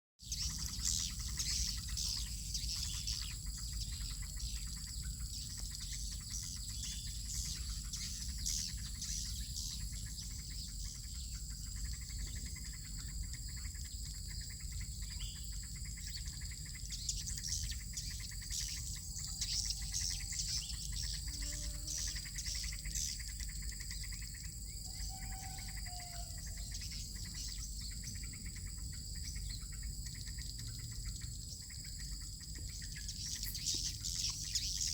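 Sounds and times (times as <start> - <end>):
high-pitched ringing drone: 0.2 - 34.9.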